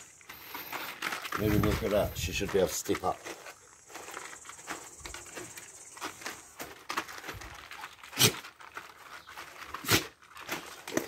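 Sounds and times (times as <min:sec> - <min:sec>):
dog pattering on plastic sheet: 0:00.0 - 0:11.0.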